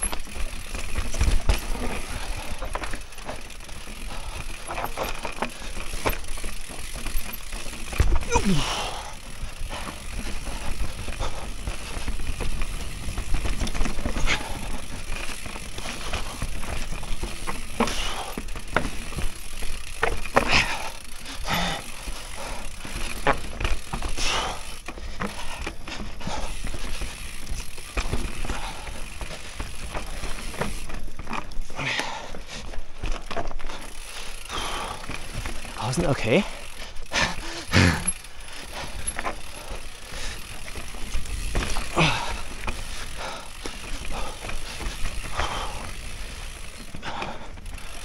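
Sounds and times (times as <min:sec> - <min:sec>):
bike rattling: 0:00.0 - 0:48.0
bike tyres rolling over dirt: 0:00.0 - 0:48.0.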